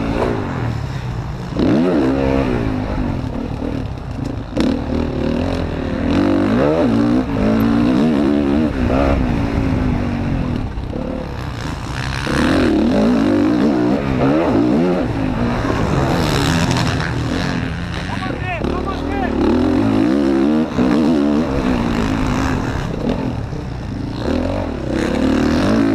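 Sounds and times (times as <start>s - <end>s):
motocross bike engine revving: 0.0s - 25.9s.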